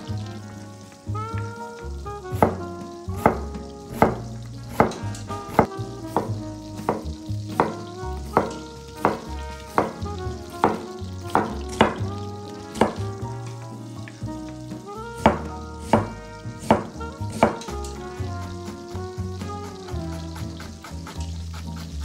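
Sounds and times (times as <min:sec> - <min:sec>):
background music with steady beat: 0:00.0 - 0:22.0
food sizzling in a frying pan: 0:00.0 - 0:22.0.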